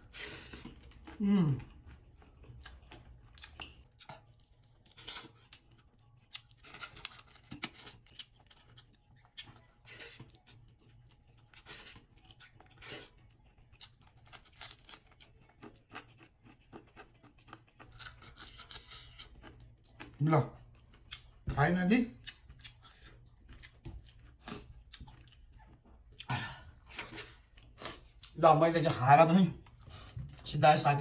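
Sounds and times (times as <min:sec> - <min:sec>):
wet eating sounds: 0:00.0 - 0:28.4.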